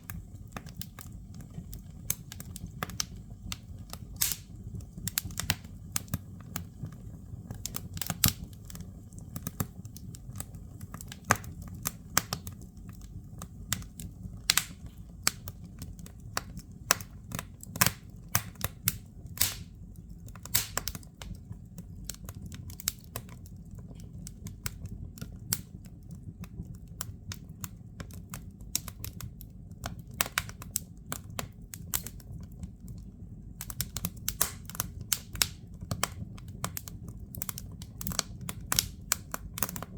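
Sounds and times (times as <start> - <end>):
fire low rumble: 0.0 - 39.9
firewood crackling and popping: 0.0 - 39.9.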